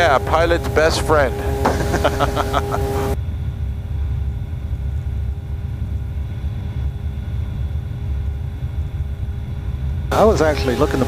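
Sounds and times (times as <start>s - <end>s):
aircraft engine droning in cabin: 0.0s - 11.0s
faint steady hum: 0.0s - 11.0s.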